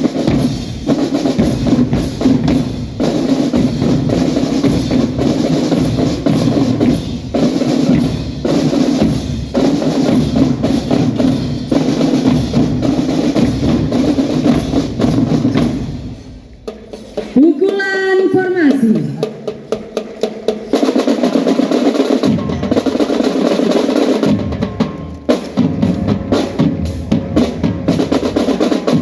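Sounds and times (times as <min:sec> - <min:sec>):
marching drum band: 0:00.0 - 0:29.0.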